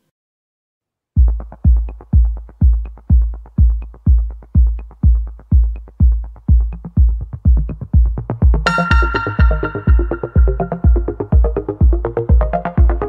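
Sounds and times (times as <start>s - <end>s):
electronic music with kick drum: 1.2s - 13.0s.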